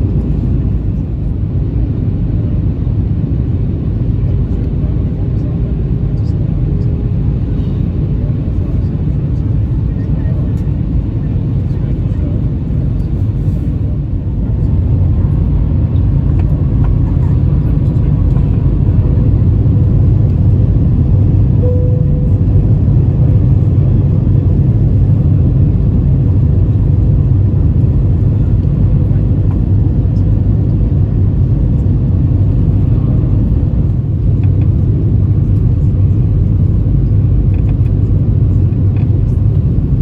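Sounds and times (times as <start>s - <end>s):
aircraft engines rumbling in cabin: 0.0s - 40.0s.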